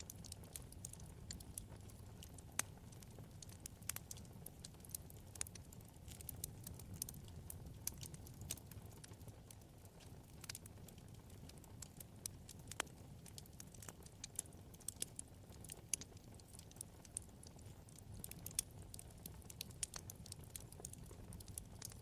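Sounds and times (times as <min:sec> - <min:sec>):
crackles and pops of burning logs: 0:00.0 - 0:22.0
low flame rumble: 0:00.0 - 0:22.0.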